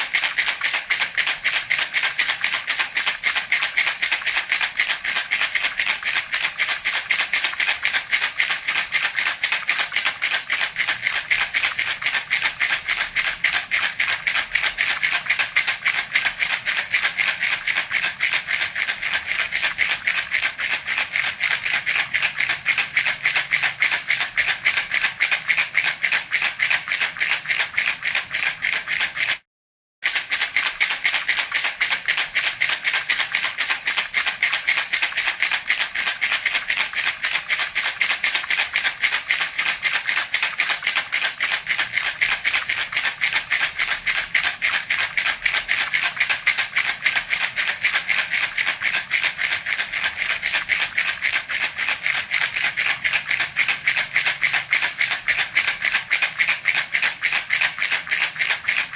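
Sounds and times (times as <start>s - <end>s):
baby rattle shaken: 0.0s - 29.4s, 30.0s - 58.9s.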